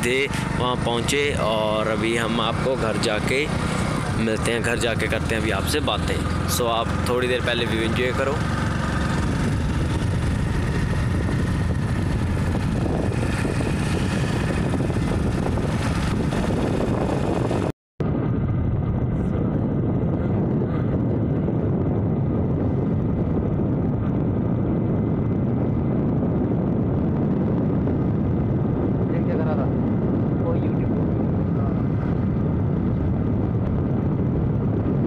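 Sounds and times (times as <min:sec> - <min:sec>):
motorcycle engine running: 0:00.0 - 0:28.8
wind buffeting microphone: 0:00.0 - 0:35.0.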